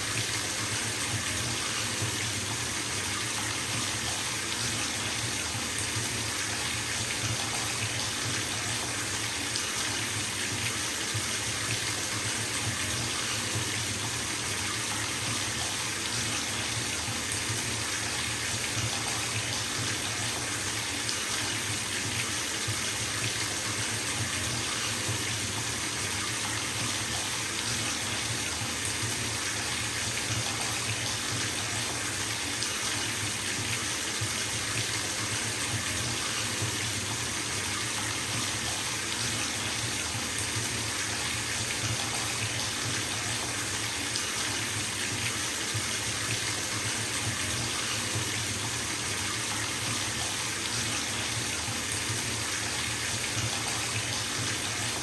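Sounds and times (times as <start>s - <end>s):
water running into bathtub: 0.0s - 55.0s.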